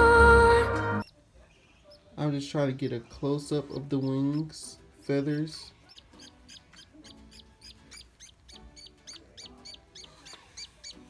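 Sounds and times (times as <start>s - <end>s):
bird chick chirping: 1.0s - 11.0s.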